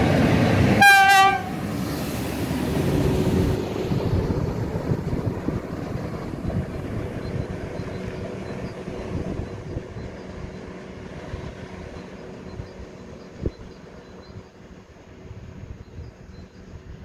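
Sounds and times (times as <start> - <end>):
track vehicle engine rumble: 0.0 - 17.0.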